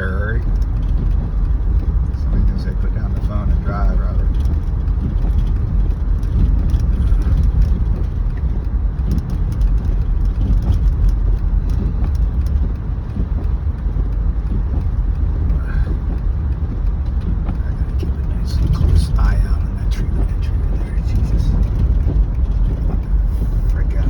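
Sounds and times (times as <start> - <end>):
car driving rumble from inside: 0.0 - 24.0.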